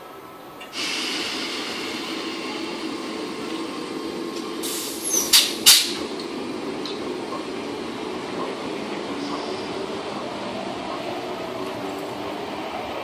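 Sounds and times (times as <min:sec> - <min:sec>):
electric train running: 0:00.7 - 0:13.0.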